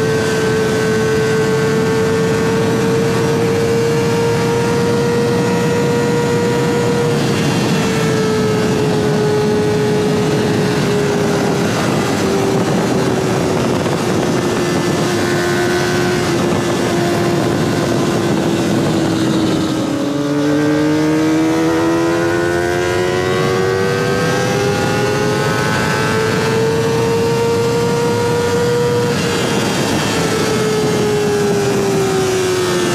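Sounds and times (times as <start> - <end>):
high-revving motorcycle engine: 0.0 - 32.9.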